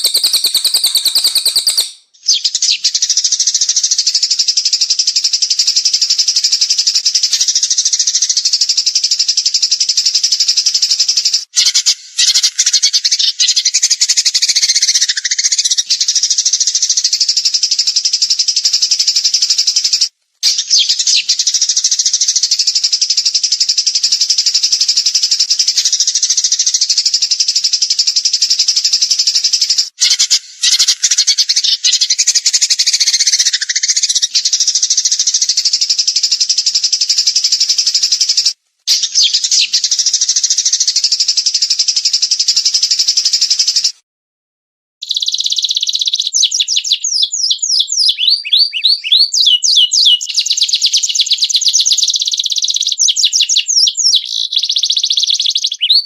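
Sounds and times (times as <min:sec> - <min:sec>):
songbird rapid trill: 0:00.0 - 0:43.9, 0:45.0 - 0:56.0.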